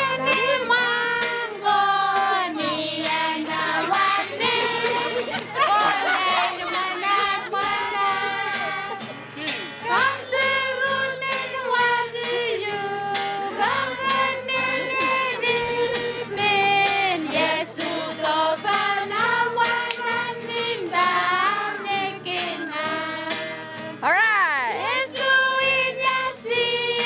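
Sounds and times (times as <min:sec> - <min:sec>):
group singing: 0:00.0 - 0:23.9, 0:24.8 - 0:27.0.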